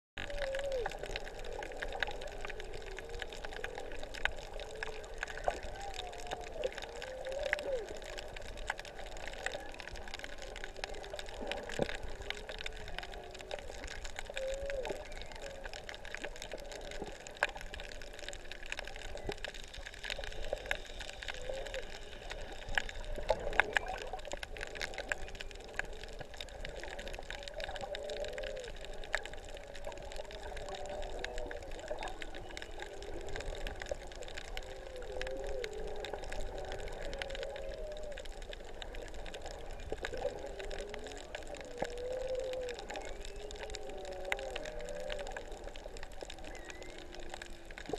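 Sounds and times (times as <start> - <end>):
crackle of fish clicks: 0.2 - 47.9
whale song moaning underwater: 0.2 - 47.9.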